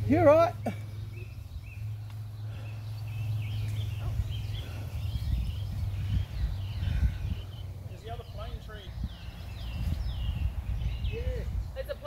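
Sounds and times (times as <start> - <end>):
steady low hum: 0.0 - 11.6
birds chirping: 0.0 - 12.0
low bumps: 0.0 - 12.0.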